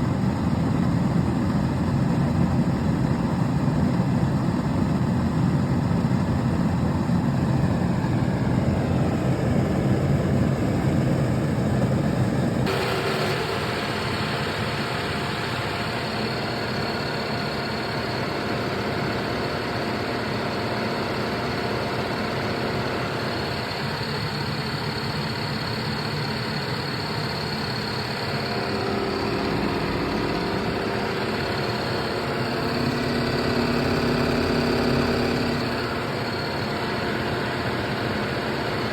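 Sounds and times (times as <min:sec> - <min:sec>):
dehumidifier hum: 0:00.0 - 0:38.9
faint high whine: 0:00.0 - 0:38.9.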